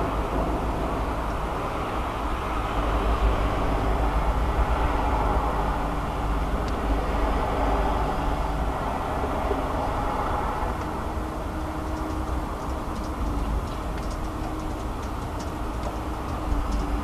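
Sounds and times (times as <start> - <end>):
low droning rumble: 0.0 - 17.0.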